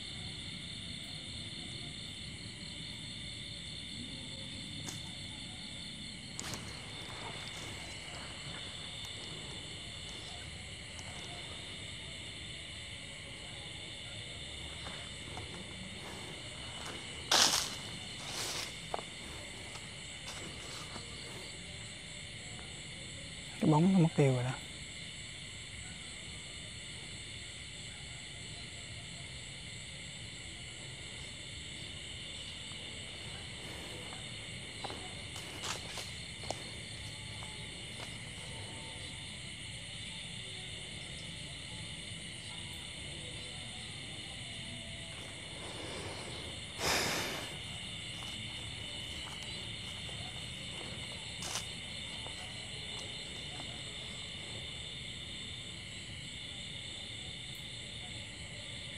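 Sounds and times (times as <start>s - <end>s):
crickets and insects chirring: 0.0s - 58.9s.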